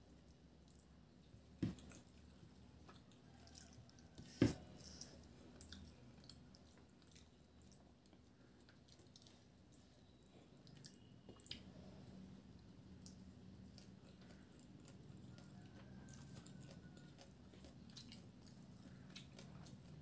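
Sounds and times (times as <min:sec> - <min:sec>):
chewing and wet squishing: 0:00.0 - 0:20.0.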